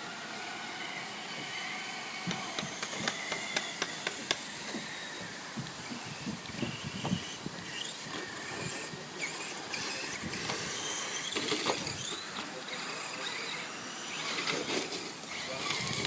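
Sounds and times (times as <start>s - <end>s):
electric motor of toy truck whining: 0.0s - 16.0s.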